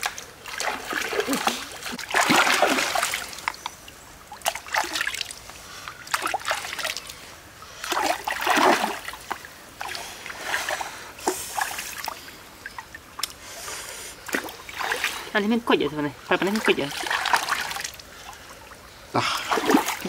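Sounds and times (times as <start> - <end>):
stream water splashing: 0.0 - 20.0.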